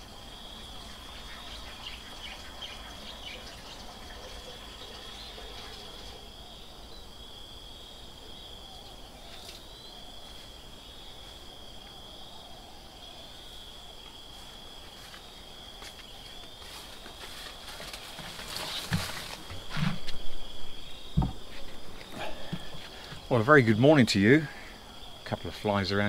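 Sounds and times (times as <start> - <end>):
insect chorus trilling: 0.0 - 26.0.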